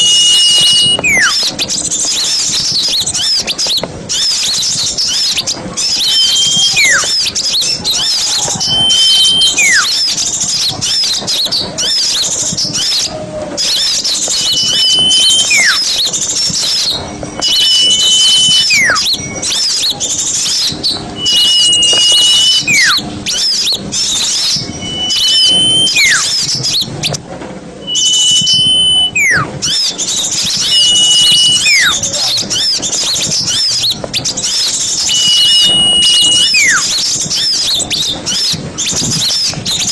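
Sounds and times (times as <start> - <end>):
falling whistle bird call: 0.0 - 27.2, 27.8 - 39.9
small birds chattering: 0.0 - 27.2, 27.8 - 39.9.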